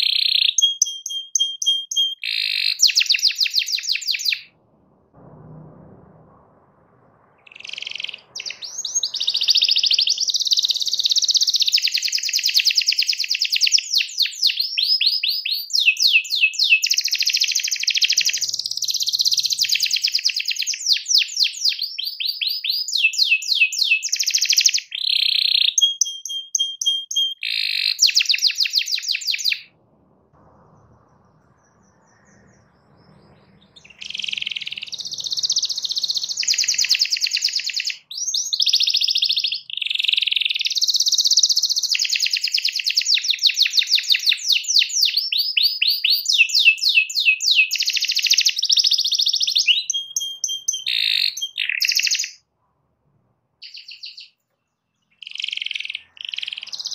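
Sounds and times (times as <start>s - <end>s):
canary singing trills: 0.0s - 4.7s, 7.2s - 29.8s, 30.6s - 52.4s, 53.6s - 56.9s.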